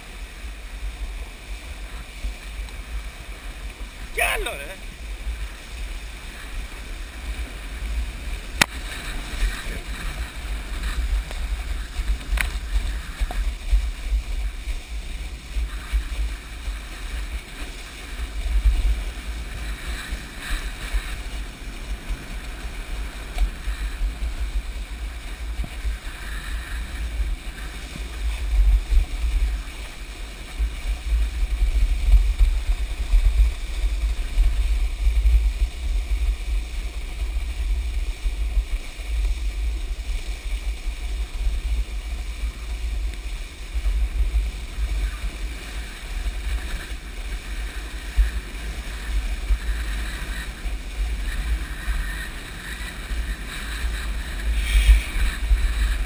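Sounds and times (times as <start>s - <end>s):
water rushing and splashing: 0.0s - 56.0s
wind buffeting microphone: 0.0s - 56.0s.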